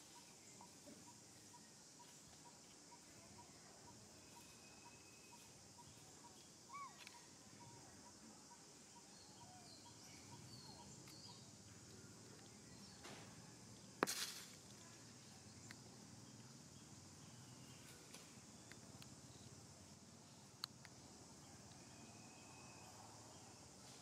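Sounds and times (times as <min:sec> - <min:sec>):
faint bird chirps: 0:00.0 - 0:14.0, 0:14.7 - 0:24.0
insect hum: 0:00.0 - 0:24.0.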